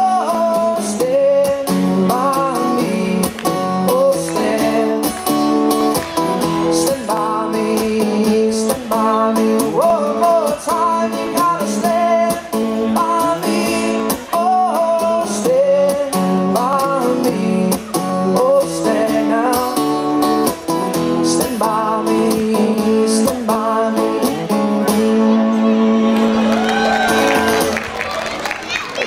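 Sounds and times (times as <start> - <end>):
man singing into microphone: 0.0 - 26.4
acoustic guitars strummed and picked: 0.0 - 27.9.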